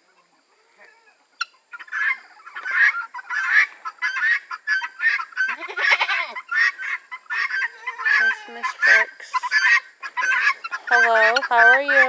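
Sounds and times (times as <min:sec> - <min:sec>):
poultry honking calls: 0:01.4 - 0:12.0.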